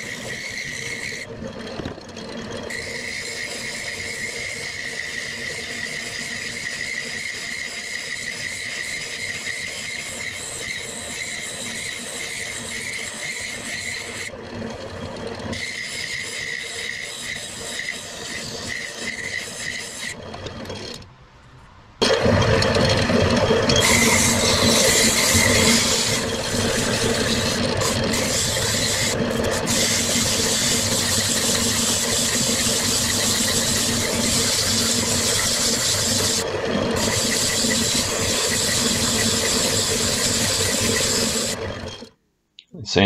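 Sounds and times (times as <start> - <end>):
sandpaper rubbing on spinning wood: 0.0 - 1.7, 2.6 - 21.0, 23.8 - 42.0
gouge cutting wood: 0.0 - 21.0, 22.0 - 42.1
wood lathe humming: 0.0 - 21.1, 22.0 - 42.1.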